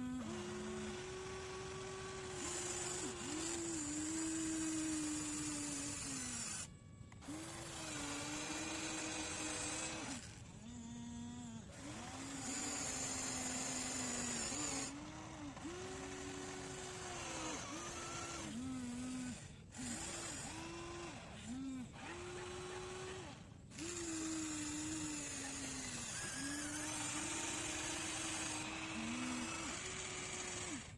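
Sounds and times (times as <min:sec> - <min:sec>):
toy excavator motor whining: 0:00.0 - 0:30.9.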